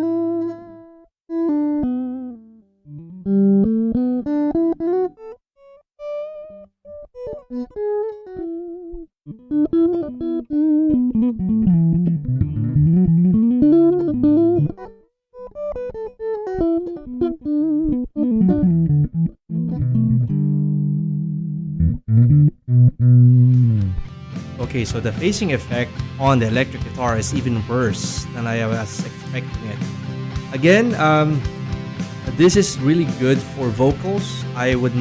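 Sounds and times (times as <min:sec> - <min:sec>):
electric guitar melody: 0:00.0 - 0:35.0.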